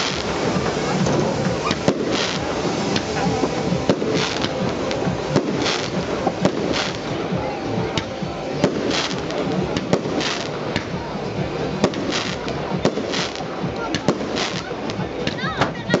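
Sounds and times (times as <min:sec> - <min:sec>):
fireworks bursting with bangs: 0:00.0 - 0:16.0.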